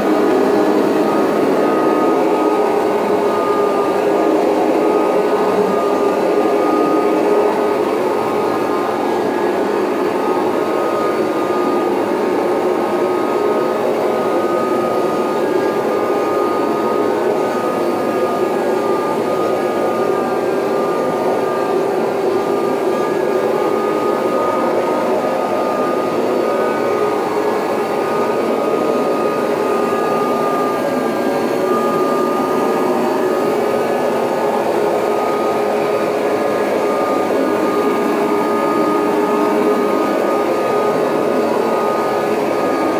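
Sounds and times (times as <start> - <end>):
upright vacuum cleaner running: 0.0 - 42.9.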